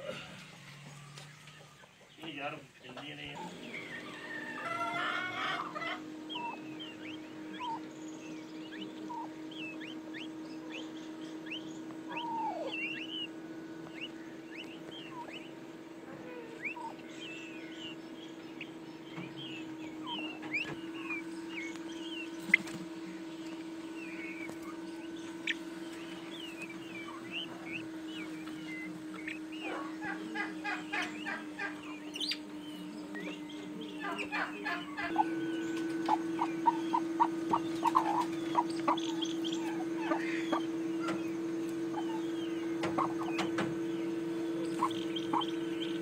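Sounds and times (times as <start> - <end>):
birds chirping: 0.0 - 46.0
steady low hum: 0.0 - 46.0.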